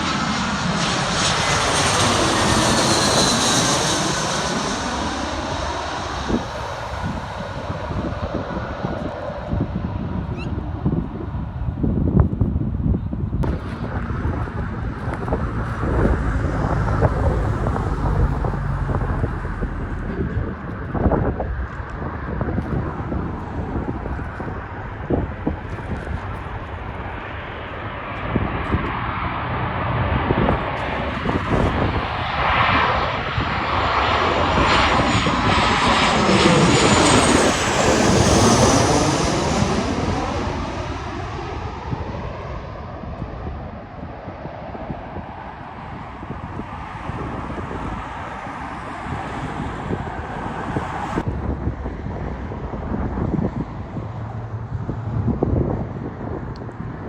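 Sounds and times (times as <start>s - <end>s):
airplane engines passing: 0.0s - 57.0s
wind buffeting microphone: 0.0s - 57.0s.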